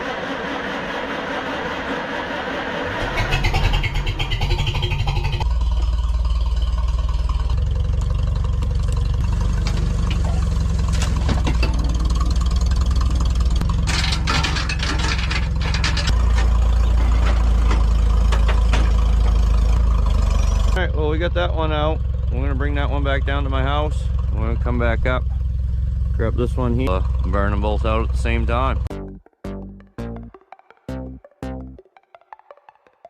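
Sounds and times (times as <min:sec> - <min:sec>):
tractor engine rumbling: 0:00.0 - 0:30.4.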